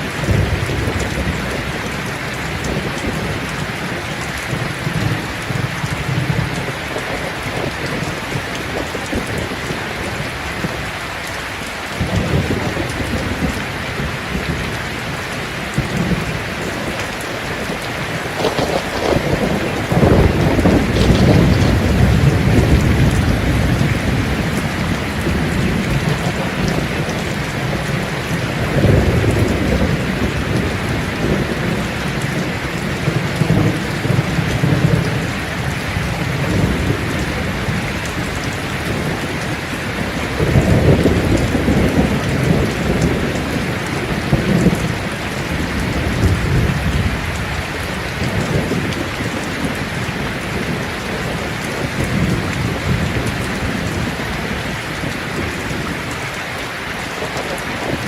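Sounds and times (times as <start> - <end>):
rolling thunder: 0.0 - 10.9, 12.0 - 56.2
heavy rain hissing: 0.0 - 58.0.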